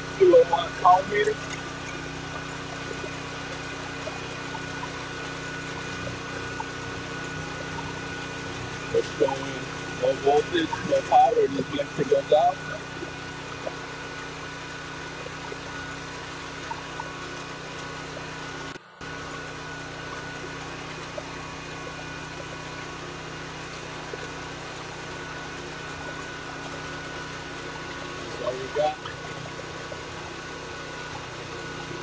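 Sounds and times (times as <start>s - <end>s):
generator engine humming: 0.0s - 32.0s.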